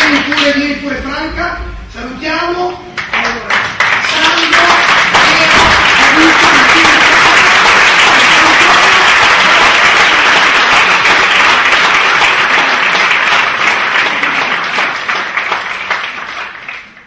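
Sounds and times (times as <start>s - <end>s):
audience applauding: 0.0s - 0.6s, 3.0s - 17.0s.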